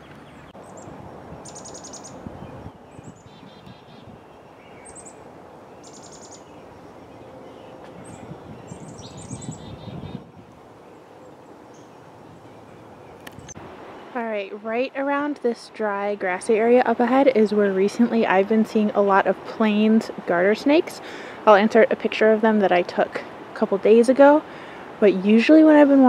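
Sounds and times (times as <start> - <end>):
outdoor background hiss: 0.0 - 26.0
songbirds chirping and trilling: 0.0 - 26.0.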